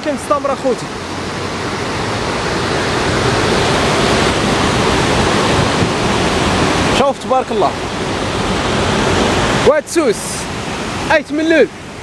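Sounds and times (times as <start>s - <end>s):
water rushing over stony riverbed: 0.0s - 12.0s.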